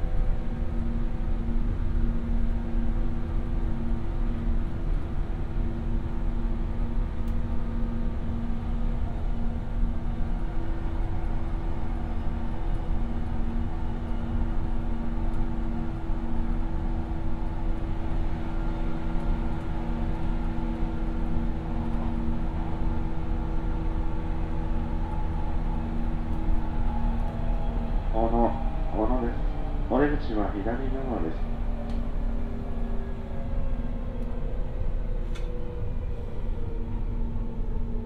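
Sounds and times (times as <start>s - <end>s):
train running gear rumble: 0.0s - 38.0s.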